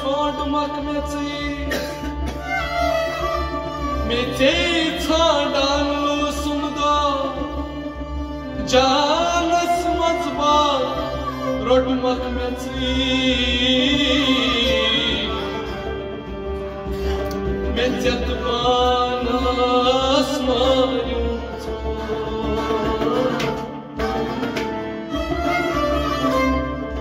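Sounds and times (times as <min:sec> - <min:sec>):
man singing: 0:00.0 - 0:16.4, 0:17.3 - 0:24.3
harmonium: 0:00.0 - 0:27.0.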